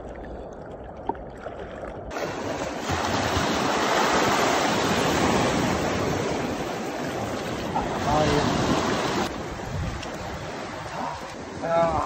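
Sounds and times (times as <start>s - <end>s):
surf splashing over rocks: 2.1s - 12.0s.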